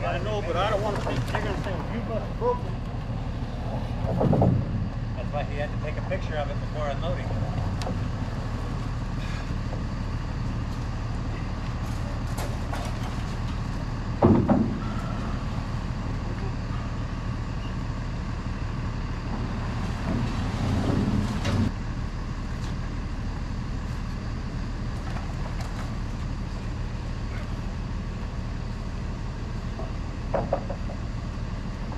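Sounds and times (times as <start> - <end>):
truck engine idling: 0.0 - 31.9.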